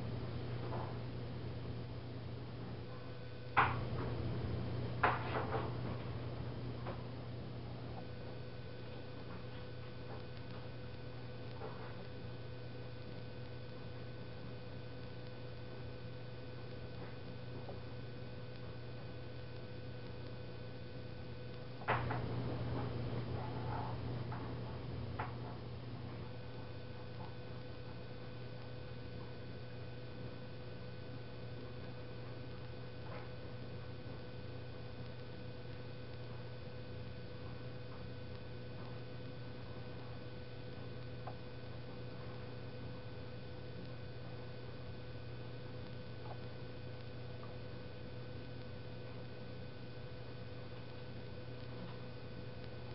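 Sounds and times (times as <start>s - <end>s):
electrical mains hum: 0.0s - 52.9s
faint high whine: 0.0s - 52.9s
faint steady tone: 0.0s - 52.9s.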